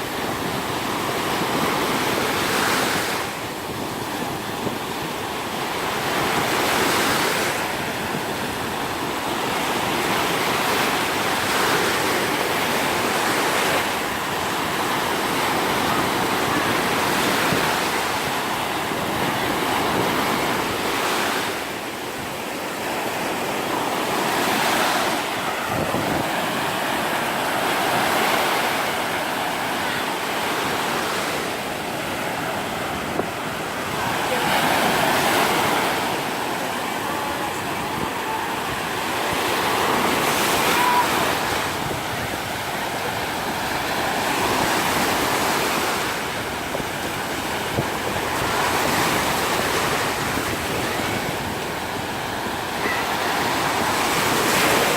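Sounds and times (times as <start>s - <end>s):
sea waves breaking on beach: 0.0s - 54.9s
wind on microphone: 0.0s - 54.9s.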